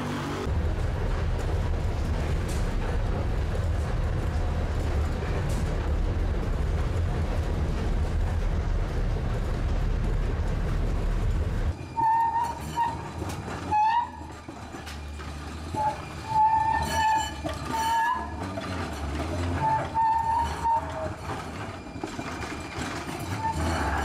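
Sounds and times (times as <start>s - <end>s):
light-rail train rumbling: 0.0s - 24.0s.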